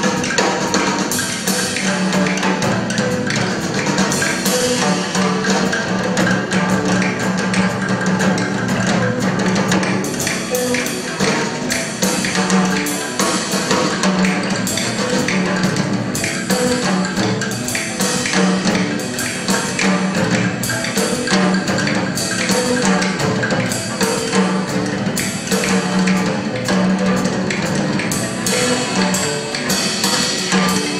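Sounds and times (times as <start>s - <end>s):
live band music: 0.0s - 30.9s.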